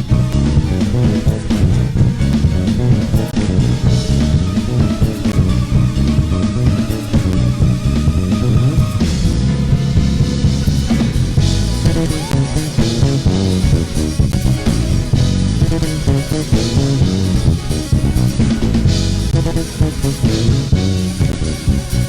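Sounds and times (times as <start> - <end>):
band playing instrumental: 0.0 - 22.0.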